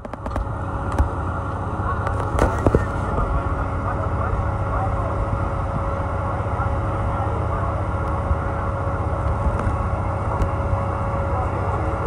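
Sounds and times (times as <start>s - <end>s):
constant hum: 0.0s - 12.0s
train diesel engine idling: 0.0s - 12.0s.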